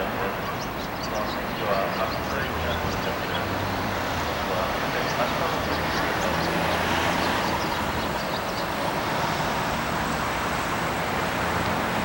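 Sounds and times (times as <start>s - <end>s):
electric train running on track: 0.0s - 12.0s.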